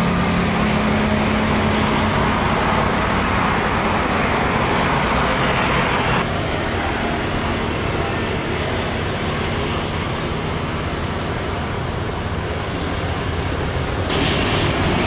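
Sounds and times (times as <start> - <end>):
jet engines running loud: 0.0 - 15.0.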